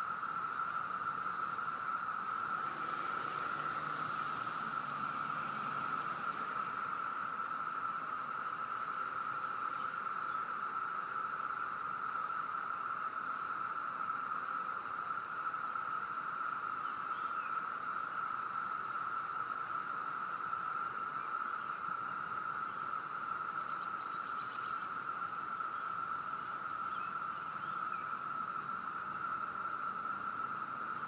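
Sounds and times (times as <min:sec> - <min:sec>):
cicadas droning: 0:00.0 - 0:31.0.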